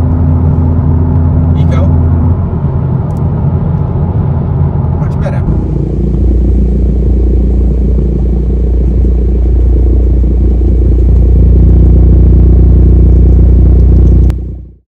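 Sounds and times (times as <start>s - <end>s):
car exhaust drone in cabin: 0.0s - 14.8s.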